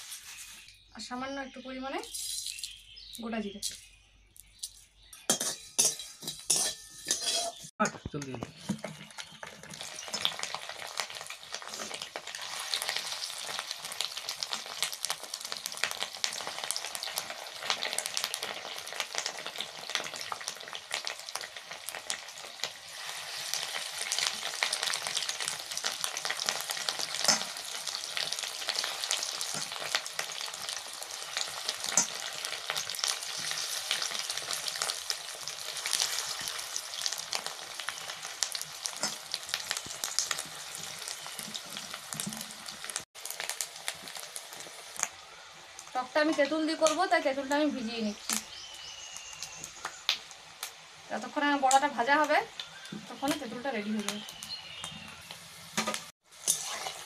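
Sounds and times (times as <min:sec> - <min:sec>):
fritters sizzling in hot oil: 0:04.6 - 0:57.0
crackling oil spatters: 0:08.2 - 0:57.0.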